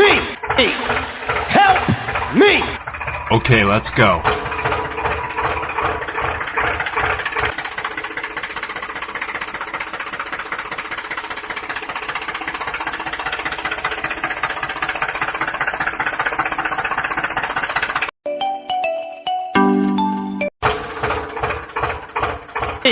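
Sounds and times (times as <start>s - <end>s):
tractor engine knocking: 0.0s - 18.1s, 20.6s - 22.9s.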